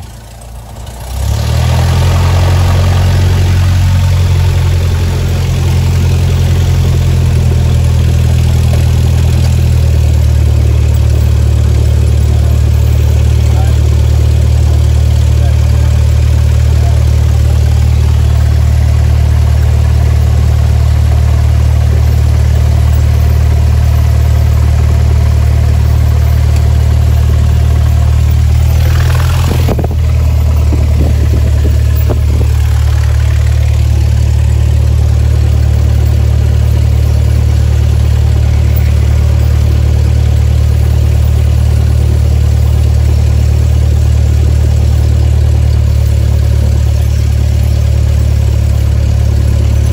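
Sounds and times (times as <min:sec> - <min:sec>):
propeller plane engine running: 0:00.0 - 0:49.9.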